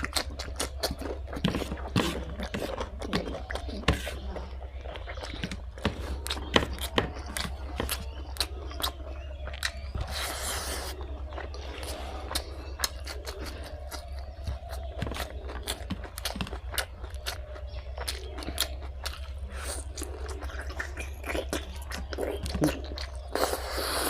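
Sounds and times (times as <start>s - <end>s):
chewing and biting food: 0.0s - 24.0s.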